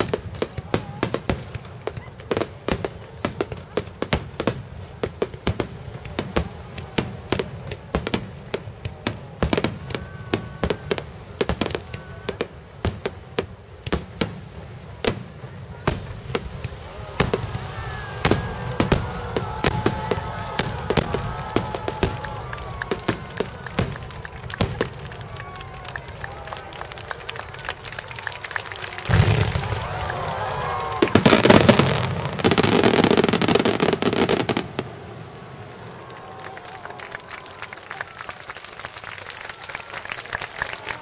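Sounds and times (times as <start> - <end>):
crowd voices: 0.0 - 41.0.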